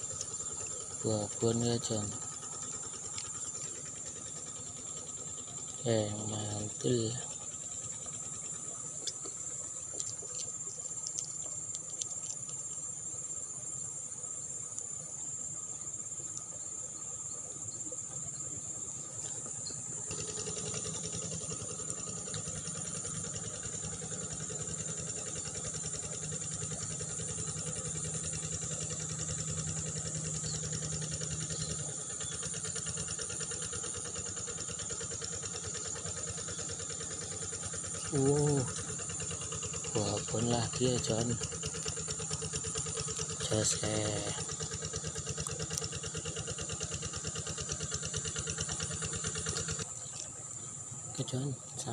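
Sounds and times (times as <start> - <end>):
insects chirring: 0.0 - 51.9
low engine hum: 0.0 - 51.9.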